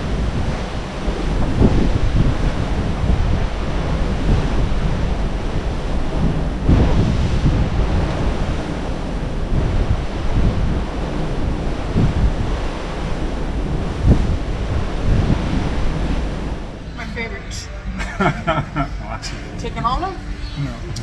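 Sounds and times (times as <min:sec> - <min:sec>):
wind buffeting microphone: 0:00.0 - 0:16.9
rough sea: 0:00.0 - 0:21.0.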